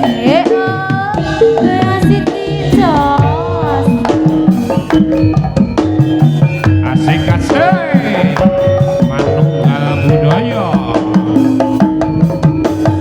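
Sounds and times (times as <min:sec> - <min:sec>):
sliding lead melody: 0:00.0 - 0:13.0
struck gamelan notes: 0:00.0 - 0:13.0.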